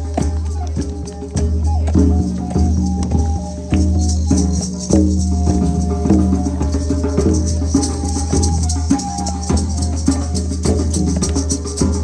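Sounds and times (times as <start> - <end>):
drums playing: 0.0 - 12.0
shakers: 0.0 - 12.0.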